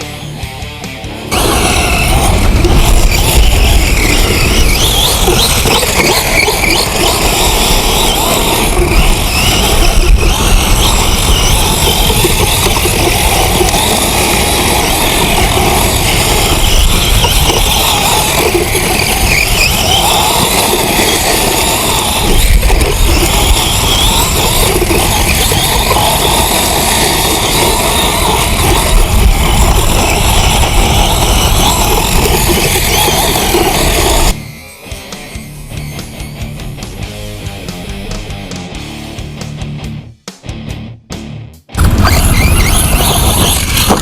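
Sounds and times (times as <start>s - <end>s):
electric motor whine: 0.0s - 38.5s, 41.8s - 44.0s
tyres churning dirt: 0.0s - 38.6s, 41.8s - 44.0s.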